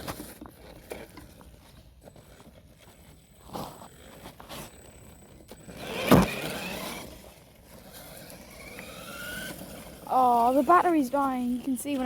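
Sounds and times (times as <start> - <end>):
electric motor whining: 2.1 - 12.0.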